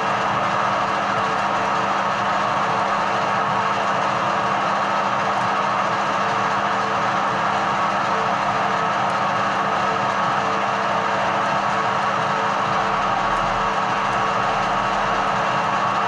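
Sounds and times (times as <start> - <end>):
metal lathe humming: 0.0 - 16.0.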